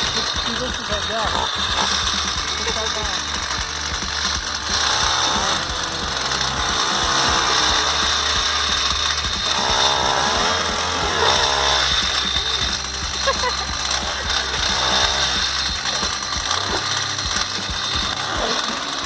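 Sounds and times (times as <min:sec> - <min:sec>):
ice auger engine drilling: 0:00.0 - 0:19.0.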